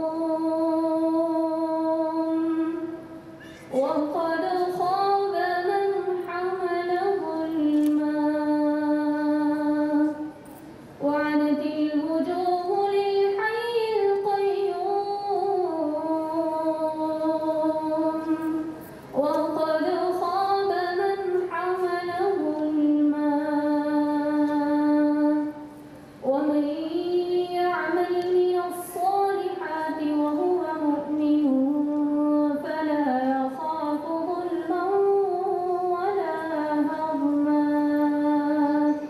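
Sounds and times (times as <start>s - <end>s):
woman reciting melodically: 0.0s - 39.0s.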